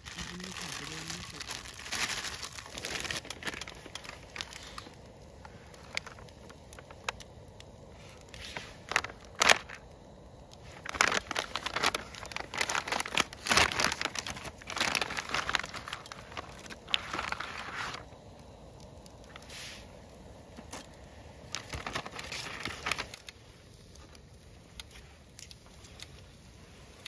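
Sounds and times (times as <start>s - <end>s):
crinkling and rustling: 0.0s - 27.0s.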